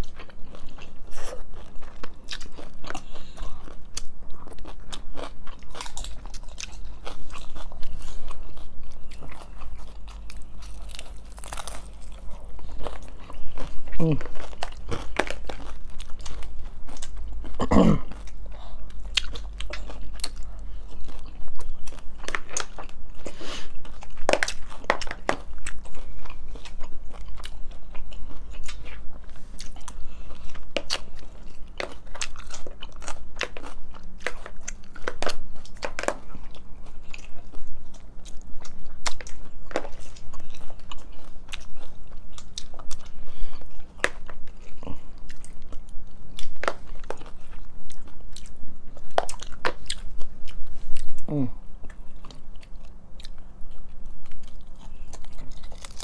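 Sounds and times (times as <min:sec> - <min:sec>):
crunching hard-shell tacos: 0:00.0 - 0:56.0.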